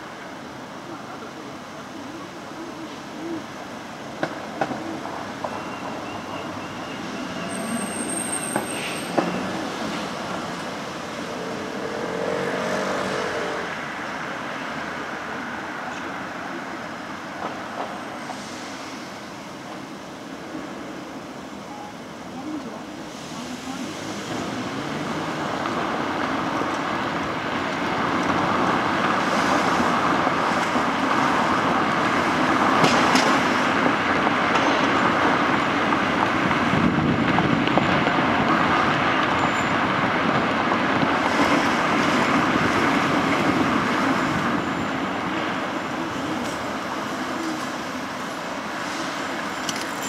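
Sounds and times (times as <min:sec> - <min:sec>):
car road and tyre noise: 0:00.0 - 0:50.0
surrounding traffic: 0:00.0 - 0:50.0.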